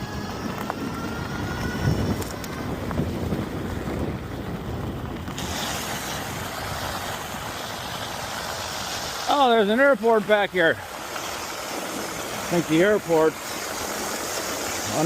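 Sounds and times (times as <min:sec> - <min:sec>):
rushing floodwater: 0:00.0 - 0:15.0
wind buffeting microphone: 0:00.0 - 0:15.0.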